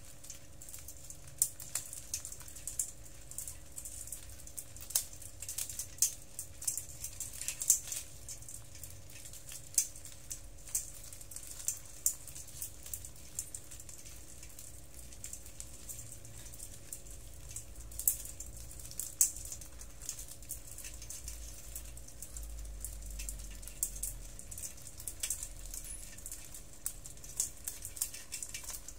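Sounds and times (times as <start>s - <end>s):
crab shells clicking and tapping: 0.0s - 28.9s.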